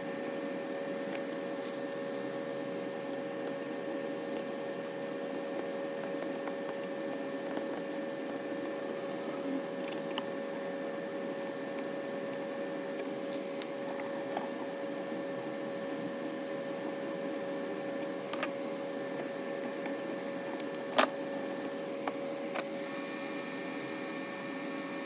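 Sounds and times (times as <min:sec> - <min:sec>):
printer humming: 0:00.0 - 0:25.0.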